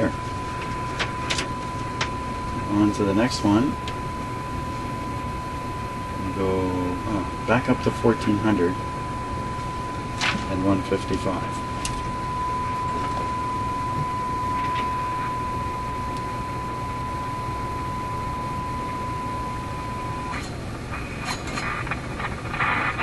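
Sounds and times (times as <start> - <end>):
low hum: 0.0 - 23.0
radio static with crackles: 0.0 - 23.0
steady test tone: 0.0 - 23.0.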